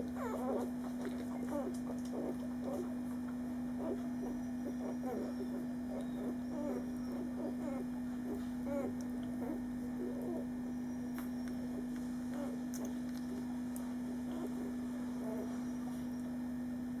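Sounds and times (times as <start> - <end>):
puppies squeaking and grunting: 0.0 - 16.3
low electrical hum: 0.0 - 17.0.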